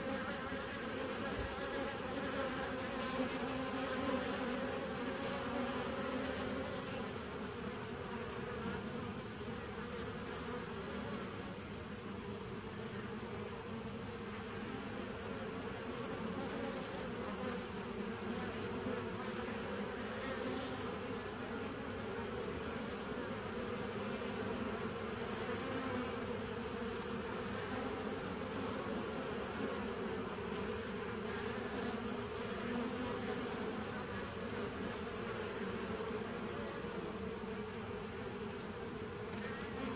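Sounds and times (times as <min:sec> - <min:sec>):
honey bees humming: 0:00.0 - 0:39.9.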